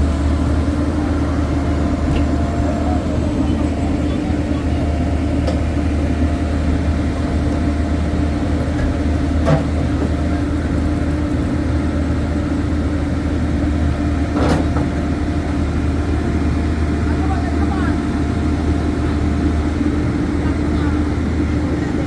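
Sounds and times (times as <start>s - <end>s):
heavy engine running: 0.0s - 22.0s.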